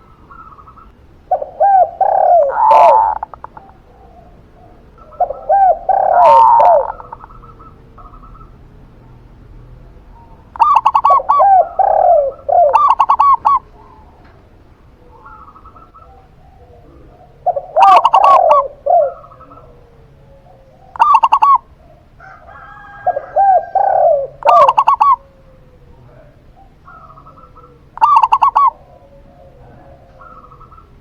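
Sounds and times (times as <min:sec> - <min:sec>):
doves cooing with rolling trill: 0:00.0 - 0:31.0.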